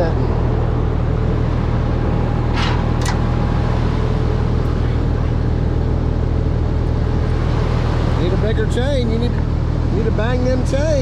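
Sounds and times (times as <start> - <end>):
heavy diesel engine droning: 0.0 - 11.0.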